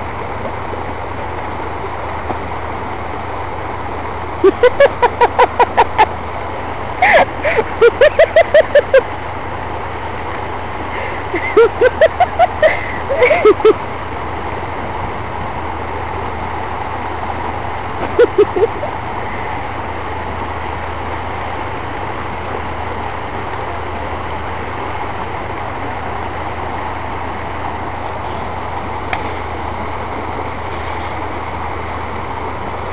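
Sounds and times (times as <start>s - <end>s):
engine running: 0.0s - 32.9s.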